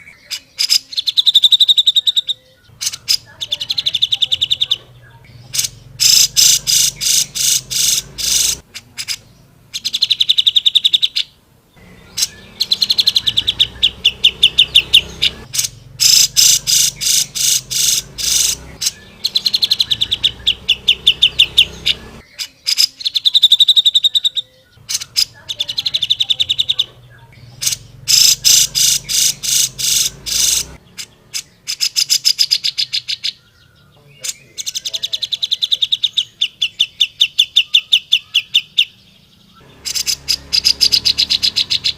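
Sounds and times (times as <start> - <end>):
bulbul singing rapid chattering: 0.0 - 39.0, 39.6 - 41.9.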